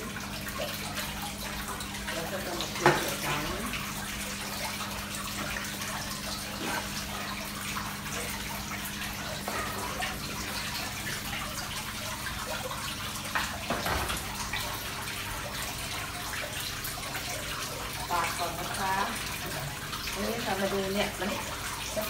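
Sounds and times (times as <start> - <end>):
water splashing from spouts: 0.0 - 22.0.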